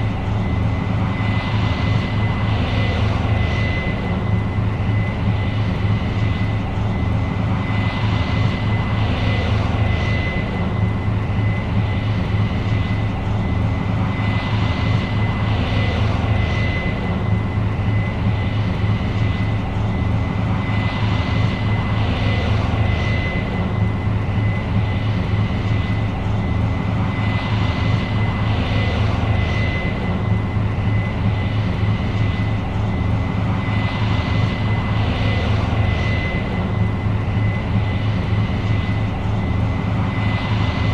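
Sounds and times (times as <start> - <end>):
combine engine drone: 0.0 - 40.9
high whine: 0.0 - 40.9.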